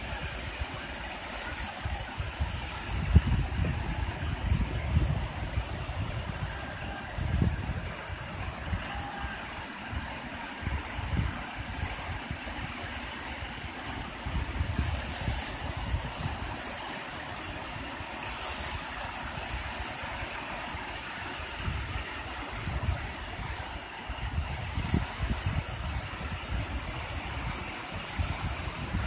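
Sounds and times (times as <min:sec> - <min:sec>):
wind buffeting microphone: 0:00.0 - 0:17.8, 0:20.8 - 0:29.0
sea surf washing ashore: 0:00.0 - 0:29.0.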